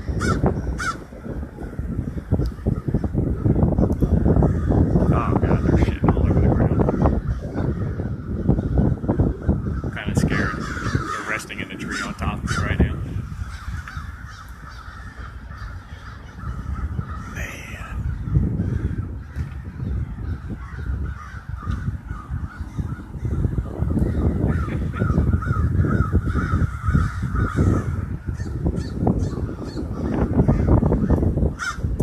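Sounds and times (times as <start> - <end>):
crows cawing: 0.0 - 31.9.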